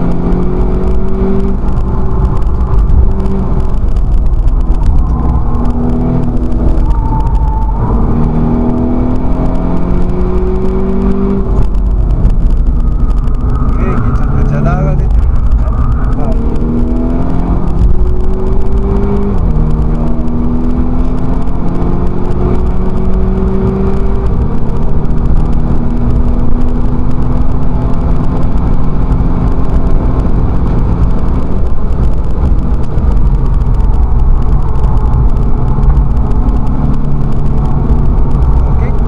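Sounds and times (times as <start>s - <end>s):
race car engine under load: 0.0s - 39.0s
road and wind rumble: 0.0s - 39.0s.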